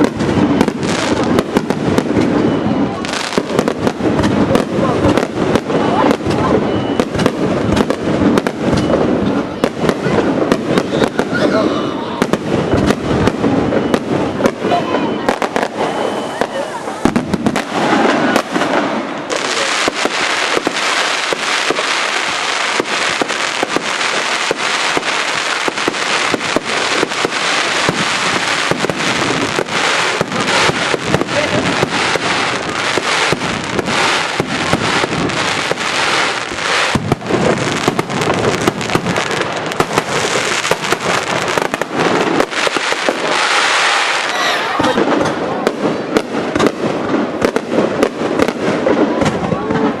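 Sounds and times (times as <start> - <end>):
crackling hiss: 0.0 - 49.1
fireworks bangs and pops: 0.0 - 50.0.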